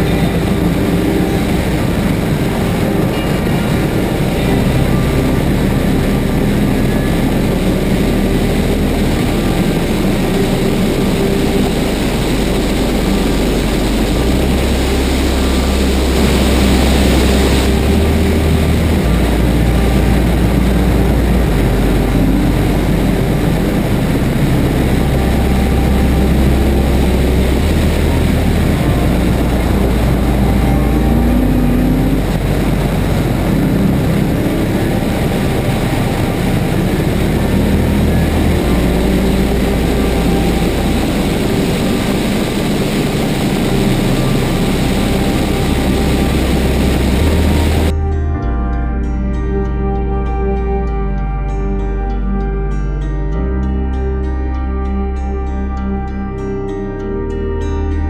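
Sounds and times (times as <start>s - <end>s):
race car engine revving: 0.0s - 48.0s
wind and road noise: 0.0s - 48.0s.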